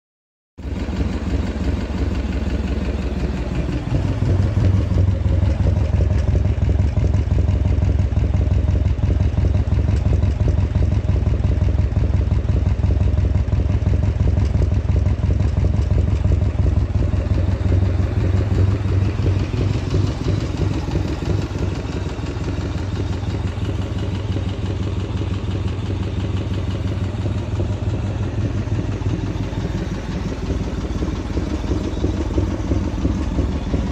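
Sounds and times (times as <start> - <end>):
motorcycle exhaust rumble: 0.6 - 33.9.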